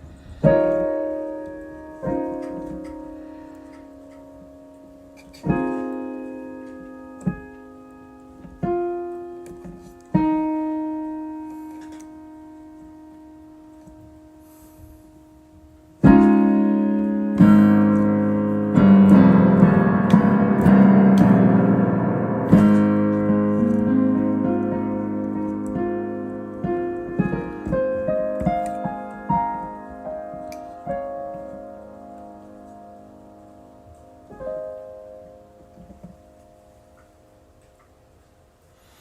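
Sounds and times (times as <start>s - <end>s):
solo piano chords: 0.0s - 39.0s.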